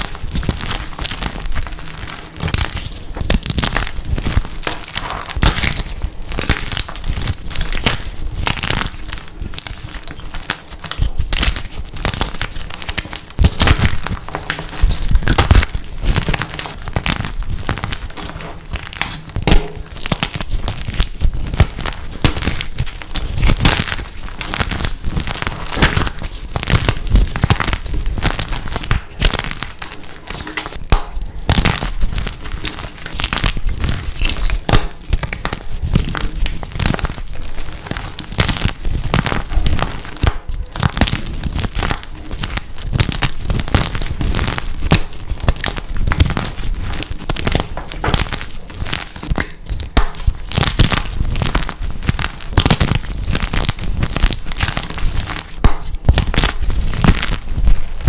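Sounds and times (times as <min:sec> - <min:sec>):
chalk crunching and crackling: 0:00.0 - 0:58.0.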